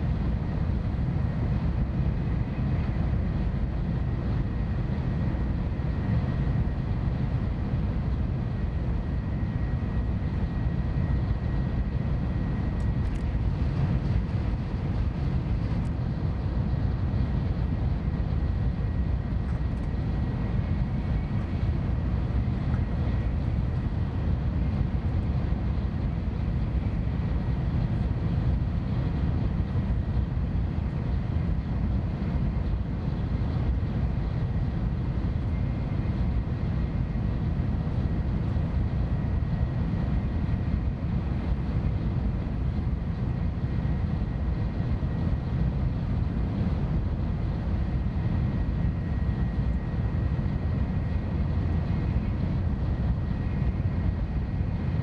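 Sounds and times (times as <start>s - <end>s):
faint high whine: 0.0s - 55.0s.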